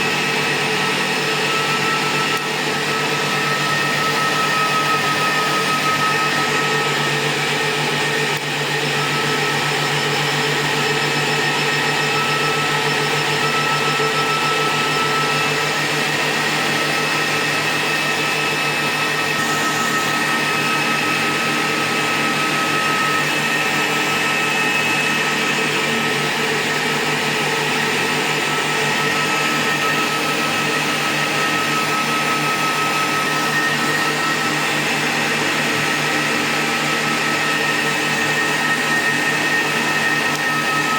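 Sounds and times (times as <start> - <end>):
cooling fans whirring: 0.0 - 40.9
high whine and hum: 0.0 - 40.9.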